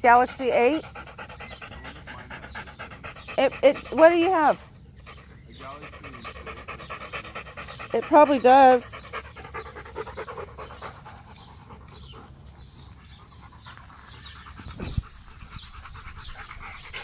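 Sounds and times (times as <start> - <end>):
dog panting rapidly: 0.0 - 17.0.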